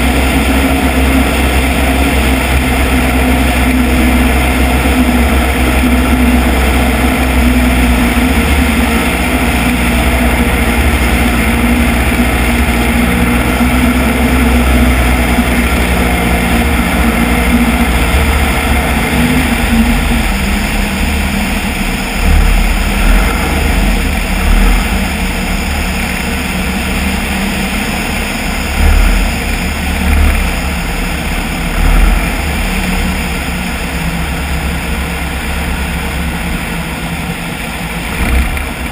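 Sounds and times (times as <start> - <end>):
low wind thumps on microphone: 0.0 - 35.0
propeller engine droning: 0.0 - 38.9
wind rushing over microphone: 0.0 - 38.9.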